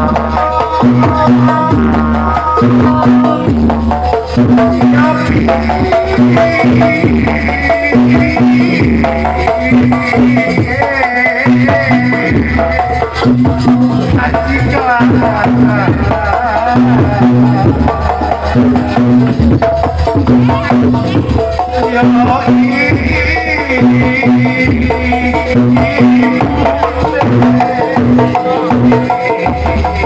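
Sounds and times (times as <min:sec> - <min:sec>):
low booming percussion strokes: 0:00.0 - 0:30.0.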